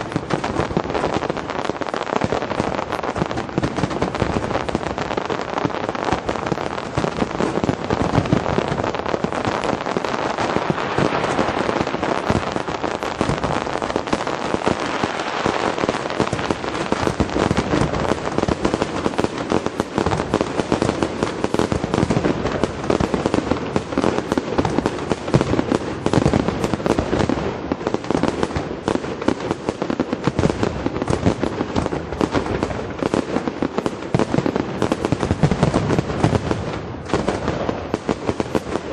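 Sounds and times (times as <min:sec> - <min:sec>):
fireworks cracks and bangs: 0:00.0 - 0:38.9.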